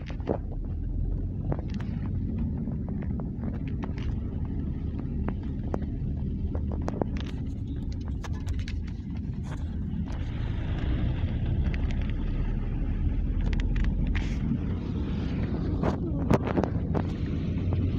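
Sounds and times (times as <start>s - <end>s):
car engine and tyres rumbling: 0.0s - 17.9s.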